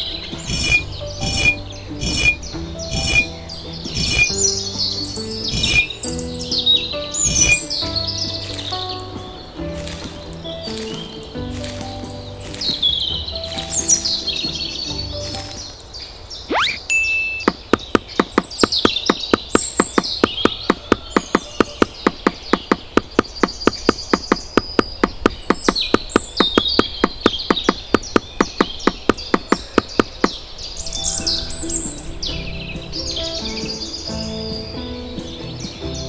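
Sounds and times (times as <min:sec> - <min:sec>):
fast sharp clicks: 0:00.0 - 0:15.7, 0:17.3 - 0:30.6
birds chirping and singing: 0:00.0 - 0:36.0.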